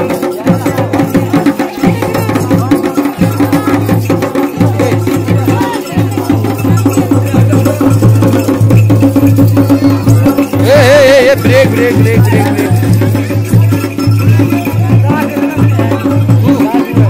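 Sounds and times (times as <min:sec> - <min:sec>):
drums beating dance rhythm: 0:00.0 - 0:17.0.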